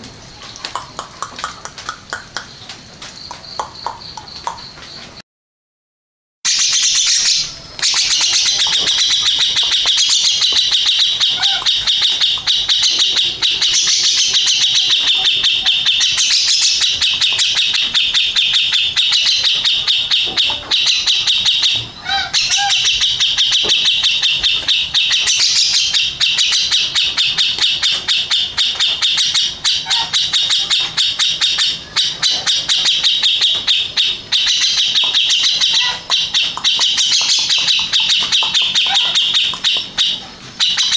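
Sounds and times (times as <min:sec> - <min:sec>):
bird chattering song: 0:00.3 - 0:05.1, 0:06.5 - 0:40.9.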